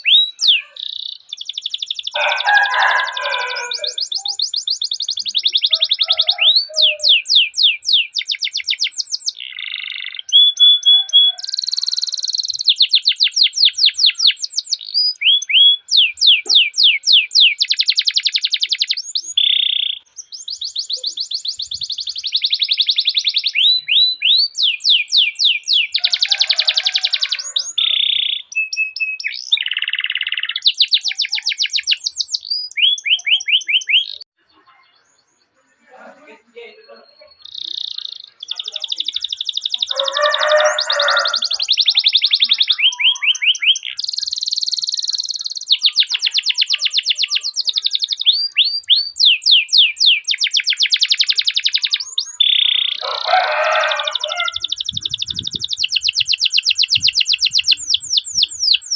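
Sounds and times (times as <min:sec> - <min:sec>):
canary singing: 0:00.0 - 0:58.9.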